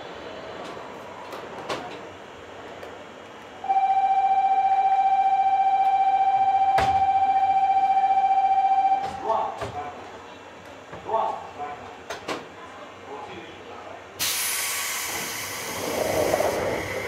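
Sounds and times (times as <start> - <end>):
faint train noise: 0.0 - 17.0.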